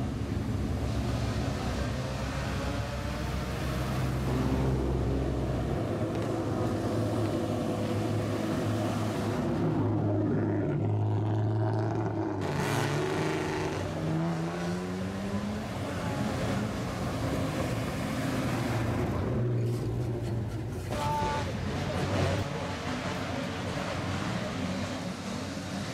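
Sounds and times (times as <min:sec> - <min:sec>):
car engines with loud exhausts: 0:00.0 - 0:25.9.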